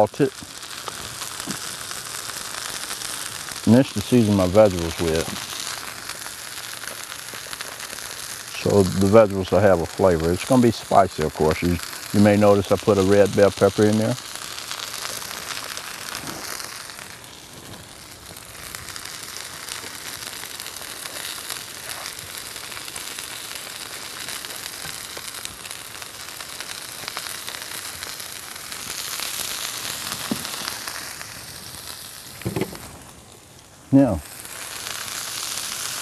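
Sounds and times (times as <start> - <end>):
vegetables sizzling in a skillet: 0.0 - 36.0.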